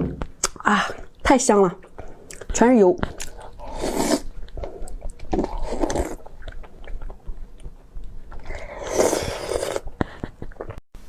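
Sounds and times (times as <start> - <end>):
person chewing greasy food: 1.8 - 10.8.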